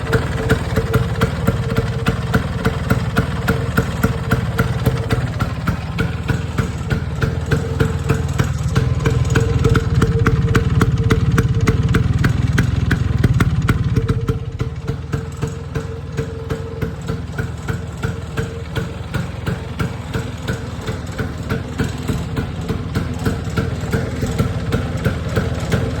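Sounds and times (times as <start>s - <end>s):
scooter engine idling: 0.0s - 26.0s.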